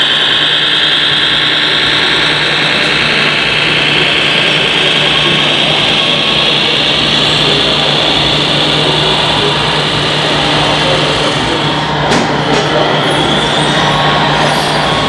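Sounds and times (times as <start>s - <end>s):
toy truck electric drive whine: 0.0s - 15.0s.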